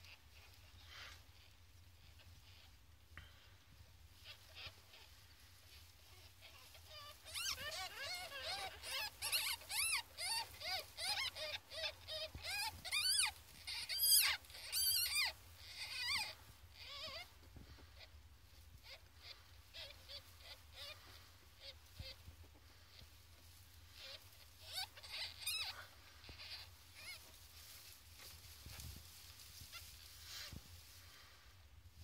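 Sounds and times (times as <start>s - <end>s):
ferret kits squeaking: 4.2s - 31.3s.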